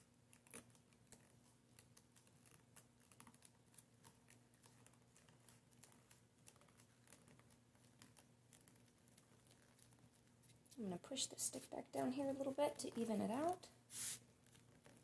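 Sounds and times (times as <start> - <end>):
cardstock rolling ticks and rustles: 0.0 - 10.8, 11.6 - 15.0.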